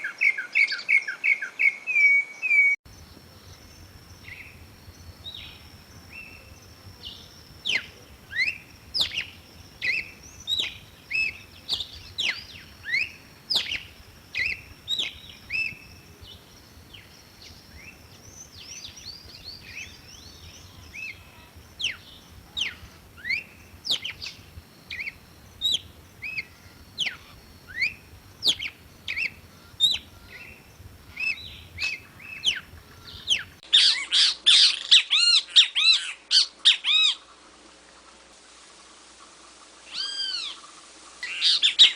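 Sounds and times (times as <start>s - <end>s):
songbird singing: 0.0s - 38.2s, 38.8s - 41.9s.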